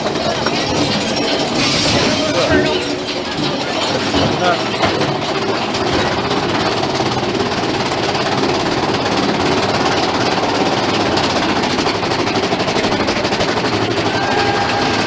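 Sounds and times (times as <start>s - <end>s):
roller coaster rattling on track: 0.0s - 15.0s.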